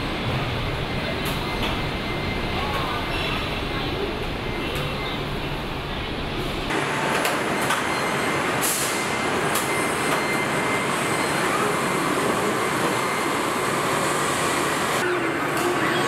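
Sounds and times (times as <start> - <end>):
industrial machinery noise: 0.0 - 16.0.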